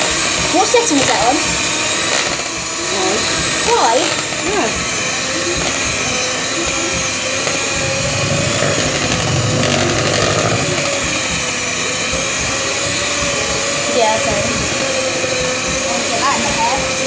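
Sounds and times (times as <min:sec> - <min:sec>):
electric hand mixer whirring: 0:00.0 - 0:17.0.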